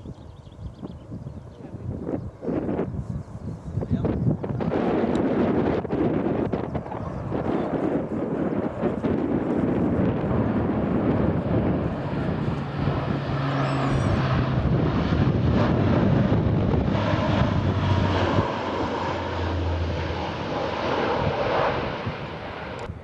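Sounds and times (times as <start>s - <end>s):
aircraft engines rumbling overhead: 0.0s - 23.0s
wind on microphone: 0.0s - 23.0s.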